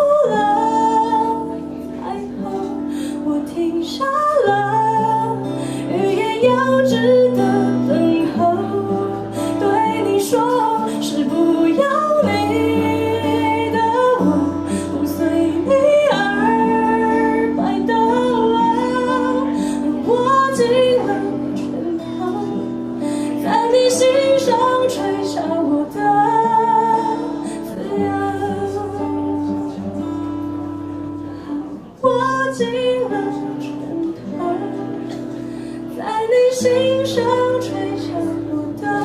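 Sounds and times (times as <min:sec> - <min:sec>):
guitar accompaniment: 0:00.0 - 0:39.0
woman singing slow song: 0:00.0 - 0:39.0.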